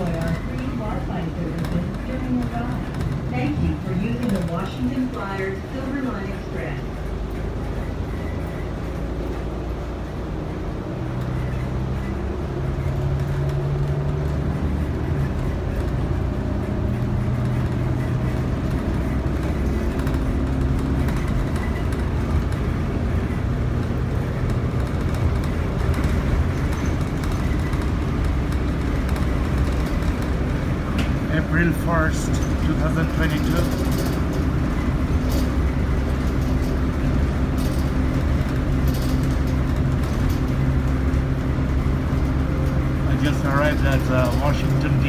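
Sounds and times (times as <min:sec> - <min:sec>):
bus engine drone: 0:00.0 - 0:45.0
tyre and road noise: 0:00.0 - 0:45.0.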